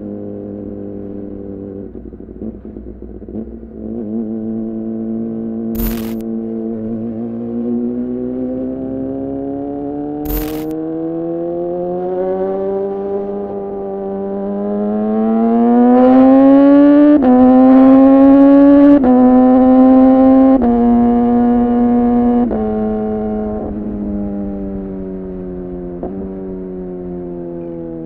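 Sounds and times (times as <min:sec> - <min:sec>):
motorcycle engine revving and upshifting: 0:02.4 - 0:28.0.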